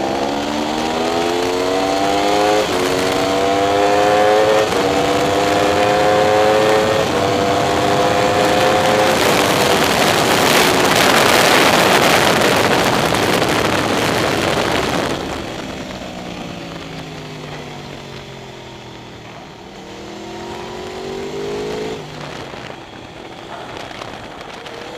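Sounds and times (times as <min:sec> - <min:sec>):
heavy wind rush: 0:00.0 - 0:24.9
motorcycle engine: 0:00.0 - 0:24.9.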